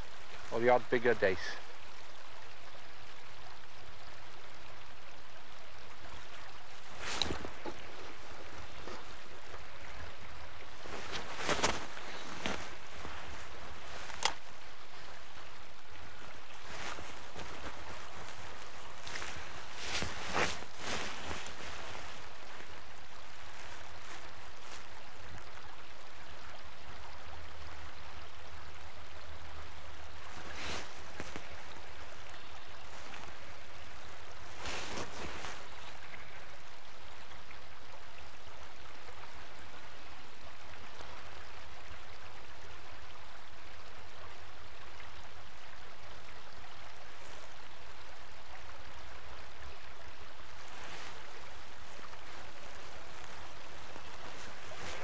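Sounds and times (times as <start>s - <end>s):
river flowing: 0.0s - 55.0s.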